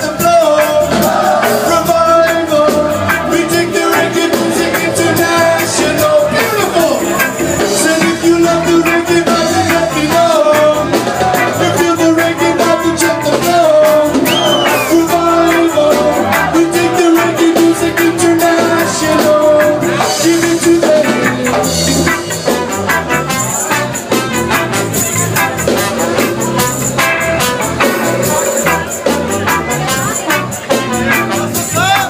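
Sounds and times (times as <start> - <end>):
person singing: 0.0 - 32.0
reggae band playing: 0.0 - 32.0.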